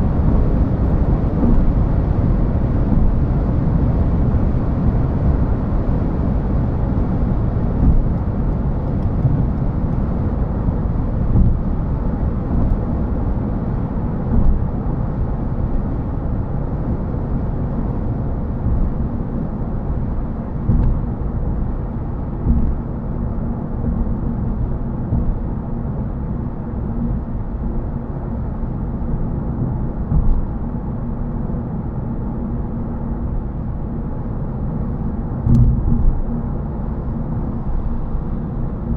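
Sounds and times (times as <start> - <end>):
road and tyre noise in car: 0.0 - 38.9.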